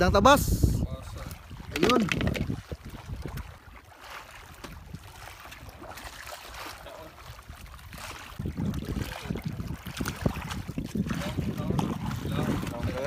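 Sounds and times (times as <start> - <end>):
water lapping against hull: 0.4 - 13.0.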